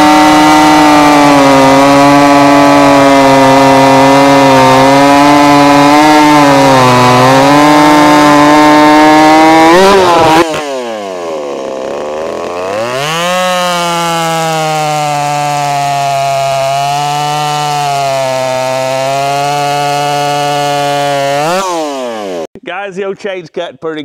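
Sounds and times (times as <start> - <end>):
chainsaw cutting a log: 0.0 - 22.5.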